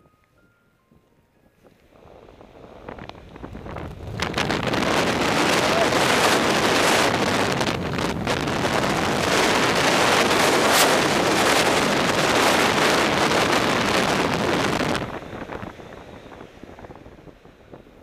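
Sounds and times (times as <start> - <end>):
airflow rushing over microphone: 1.8 - 18.0.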